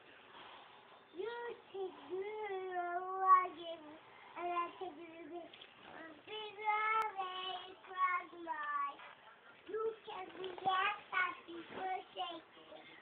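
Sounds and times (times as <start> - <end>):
girl singing: 1.1 - 9.1, 9.7 - 13.0.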